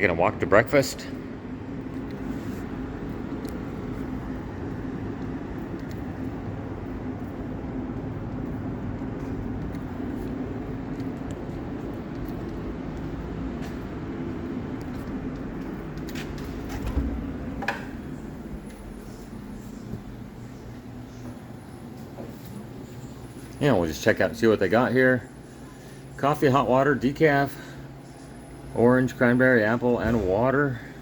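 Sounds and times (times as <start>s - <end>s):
mechanical rumble with low hum: 0.0s - 31.0s.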